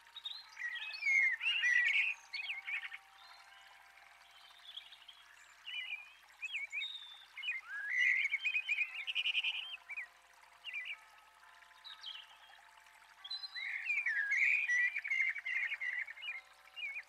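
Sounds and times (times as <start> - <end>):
faint steady thin tones: 0.0 - 17.0
songbirds chirping: 0.0 - 17.0.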